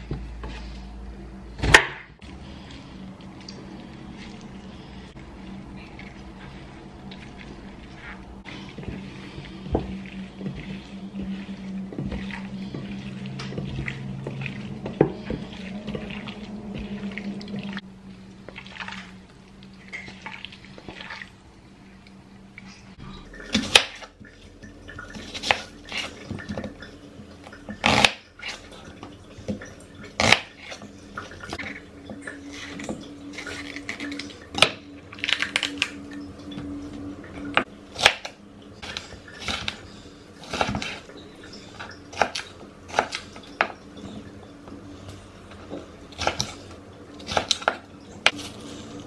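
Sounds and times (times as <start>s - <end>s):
low hum: 0.0s - 49.0s
wet squishing of chicken: 2.2s - 49.0s.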